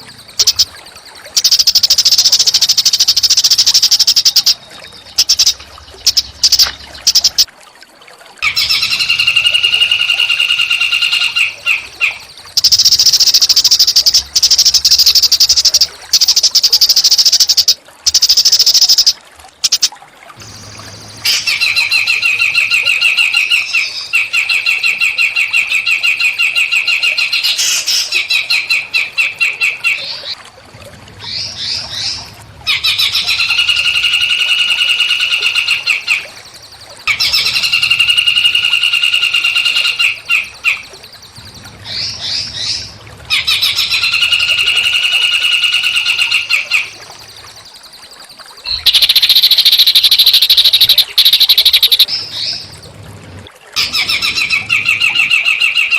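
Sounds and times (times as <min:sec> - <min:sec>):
songbird buzzy trills: 0:00.0 - 0:07.5, 0:08.4 - 0:30.4, 0:31.1 - 0:55.9.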